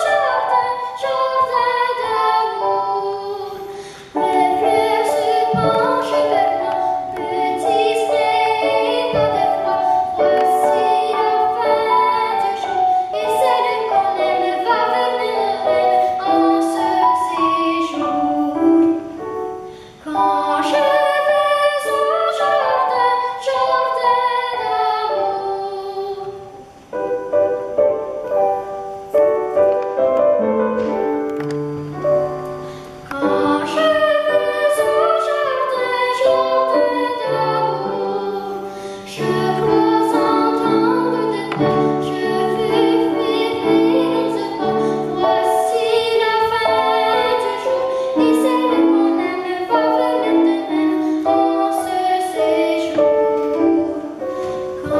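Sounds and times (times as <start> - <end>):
boy singing classical song: 0.0 - 29.1, 29.8 - 54.9
piano accompaniment: 0.0 - 54.9.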